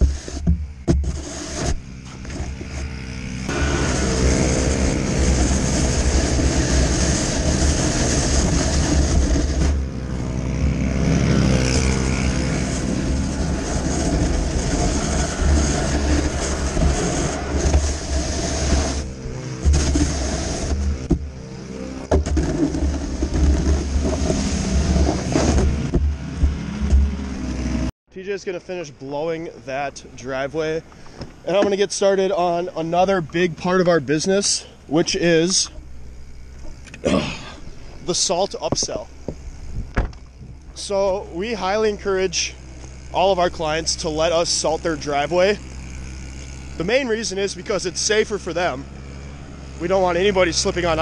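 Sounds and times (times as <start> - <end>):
snowblower engine running: 0.0 - 27.9, 28.6 - 51.0.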